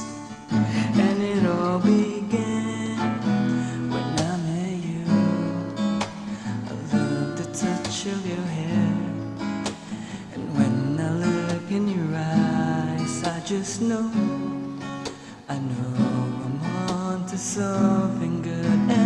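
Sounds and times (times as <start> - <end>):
acoustic guitar: 0.0 - 19.0
man singing: 0.0 - 19.0.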